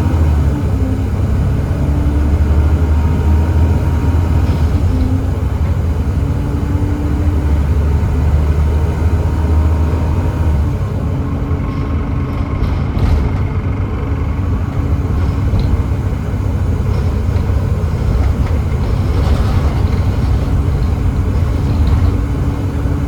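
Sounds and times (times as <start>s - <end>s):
bus diesel engine rumbling: 0.0s - 23.0s.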